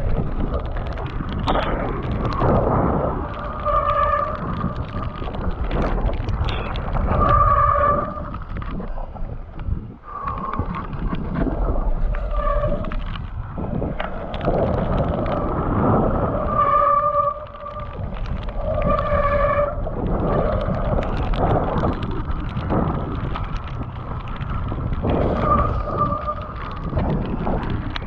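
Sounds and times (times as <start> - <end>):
bike clattering on rough trail: 0.0 - 28.0
tyre noise: 0.0 - 28.0
wind rush: 0.0 - 28.0.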